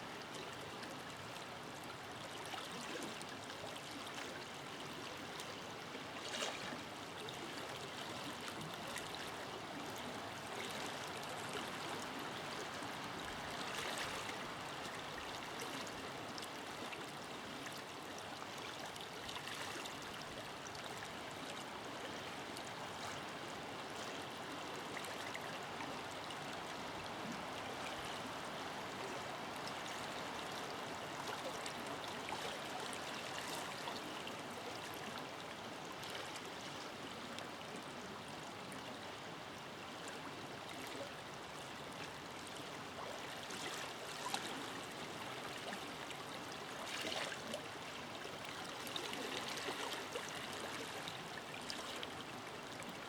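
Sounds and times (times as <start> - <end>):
water splashes and gurgles: 2.2 - 37.8, 40.3 - 53.0.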